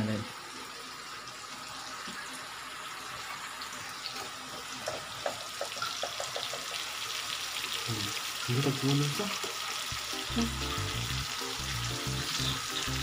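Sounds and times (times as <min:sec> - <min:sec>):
squash sizzling in oil: 0:00.0 - 0:13.0.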